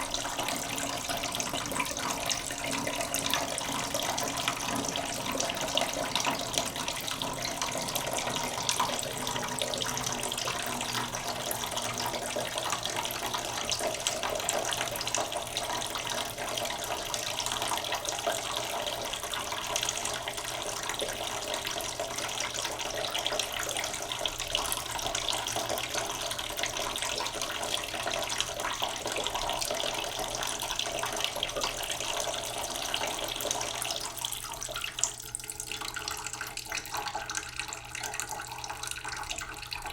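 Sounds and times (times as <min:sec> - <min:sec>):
tap water running into pot: 0:00.0 - 0:39.9.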